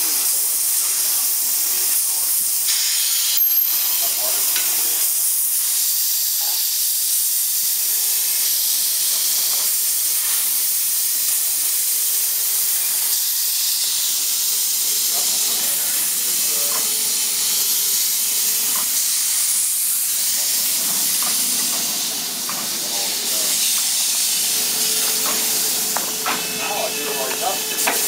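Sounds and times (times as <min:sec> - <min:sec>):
steam locomotive venting steam: 0:00.0 - 0:28.0.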